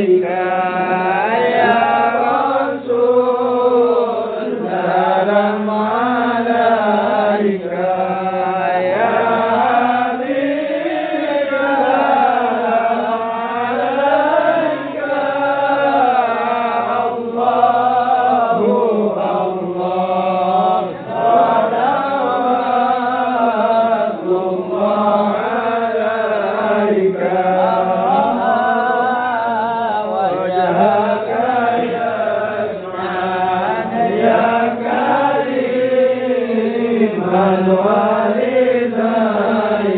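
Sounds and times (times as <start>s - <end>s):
men chanting devotional song: 0.0s - 39.9s.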